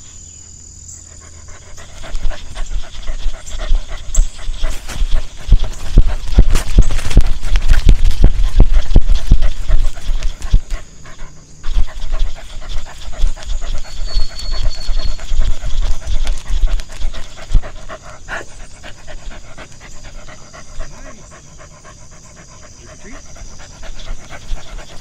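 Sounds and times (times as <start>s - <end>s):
dog panting: 1.0s - 25.0s.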